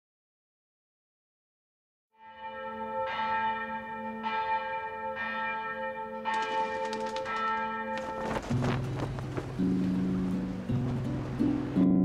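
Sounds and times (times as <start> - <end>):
church bells ringing: 2.2 - 12.0.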